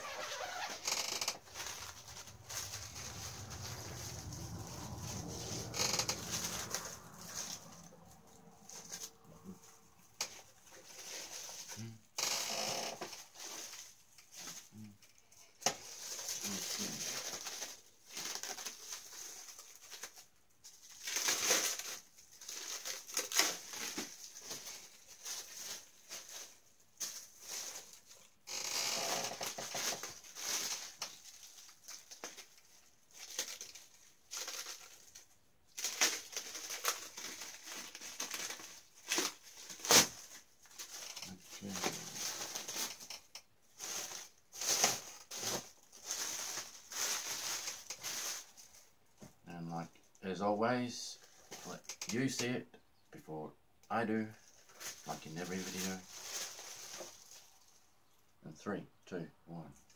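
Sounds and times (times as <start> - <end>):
plastic packaging crinkling: 0.0 - 48.9, 54.4 - 57.9.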